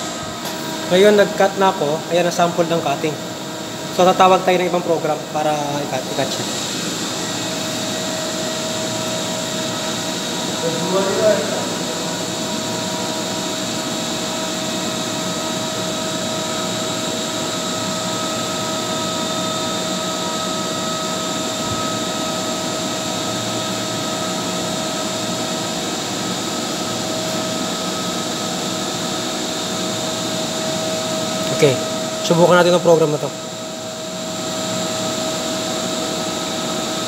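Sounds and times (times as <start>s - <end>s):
machinery drone with whining tones: 0.0s - 37.0s.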